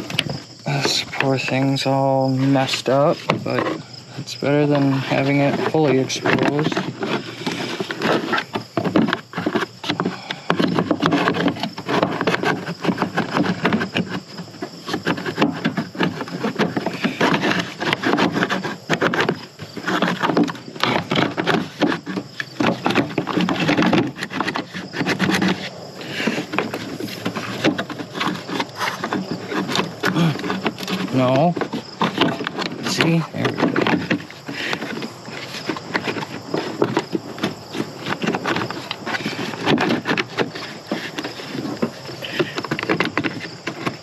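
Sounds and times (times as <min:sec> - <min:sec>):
plastic parts clicking and knocking: 0:00.0 - 0:44.0.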